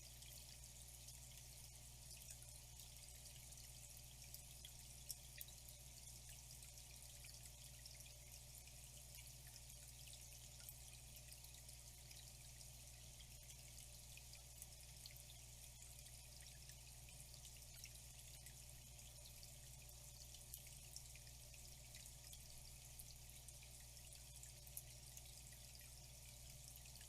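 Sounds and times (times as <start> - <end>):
faint flowing water: 0.0 - 27.0
low steady hum: 0.0 - 27.0
water drips and splashes: 0.0 - 27.0.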